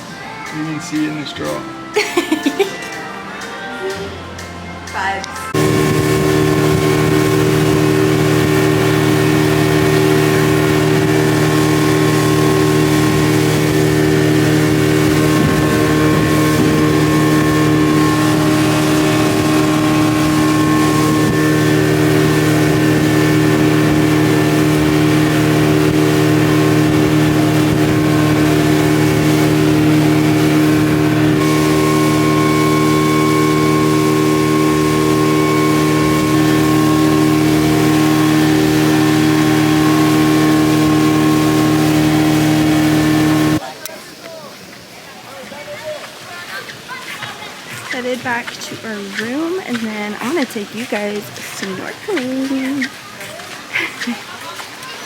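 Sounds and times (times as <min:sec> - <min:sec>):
engine droning: 0:03.8 - 0:43.6, 0:47.6 - 0:55.0.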